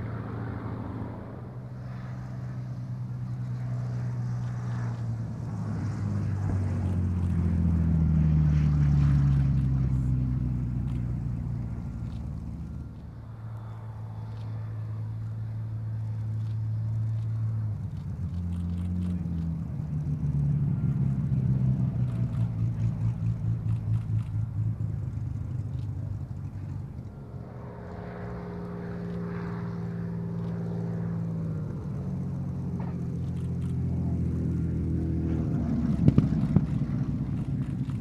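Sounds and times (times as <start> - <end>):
propeller plane engines roaring: 0.0 - 38.0.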